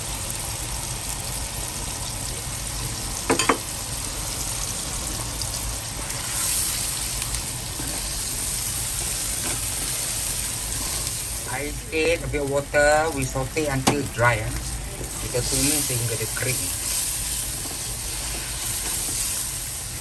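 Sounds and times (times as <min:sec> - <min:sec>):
paste sizzling in hot oil: 0:00.0 - 0:20.0.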